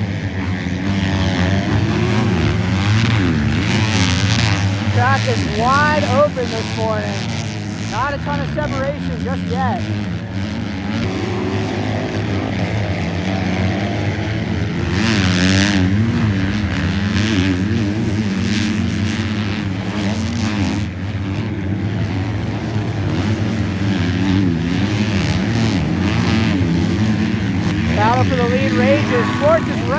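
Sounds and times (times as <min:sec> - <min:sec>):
motocross bikes revving: 0:00.0 - 0:29.9.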